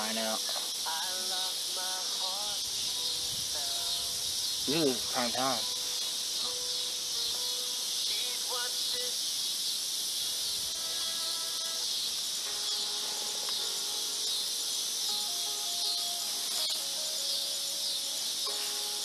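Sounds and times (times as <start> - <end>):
insects chirring in a field: 0.0 - 19.0.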